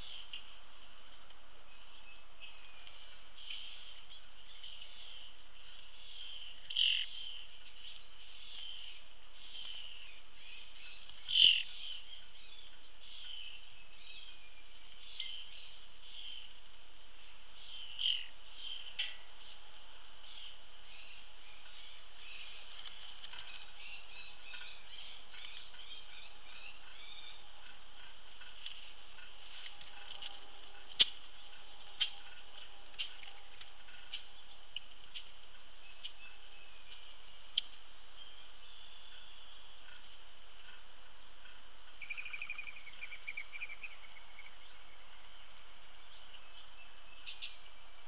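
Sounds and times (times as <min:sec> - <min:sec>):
birds chirping chorus: 0:00.0 - 0:48.0
sharp bird calls: 0:01.8 - 0:16.5, 0:20.3 - 0:45.1.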